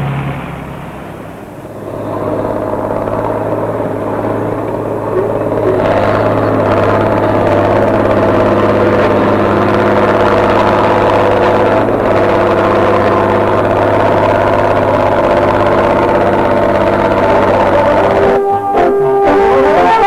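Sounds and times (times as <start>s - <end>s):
heavy machinery engines running: 0.0s - 20.0s.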